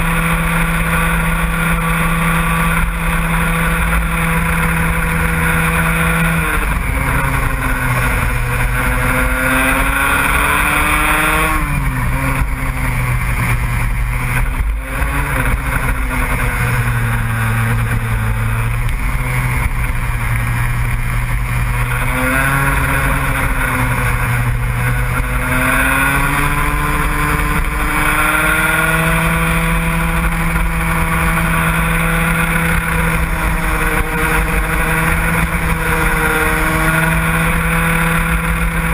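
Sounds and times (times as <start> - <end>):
racing engine accelerating: 0.0 - 38.9.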